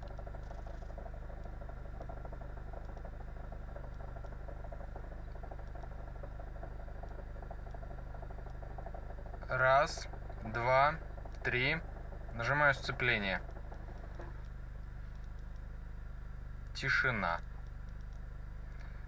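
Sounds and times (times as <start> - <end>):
fast rattling knock: 0.0 - 18.3
car engine idling: 0.0 - 19.0.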